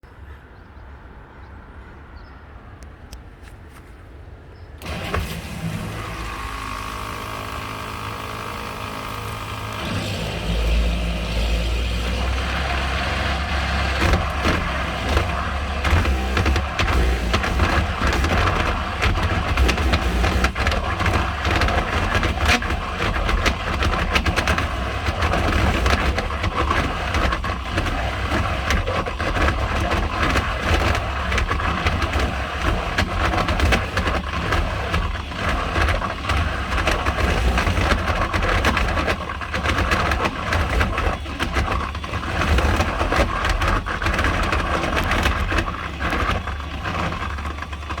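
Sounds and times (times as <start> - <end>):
pump grinding and humming: 4.8 - 48.0.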